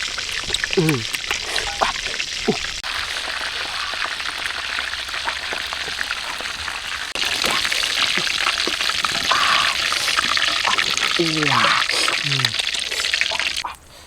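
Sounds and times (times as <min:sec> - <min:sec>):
food sizzling in a pan: 0:00.0 - 0:13.6
small crackles: 0:00.0 - 0:14.0.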